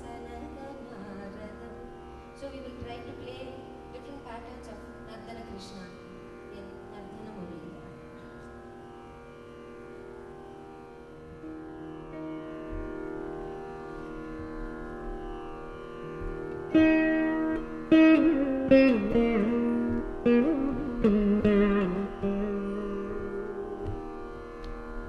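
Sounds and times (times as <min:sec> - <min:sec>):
veena plucked melody: 0:00.0 - 0:25.0.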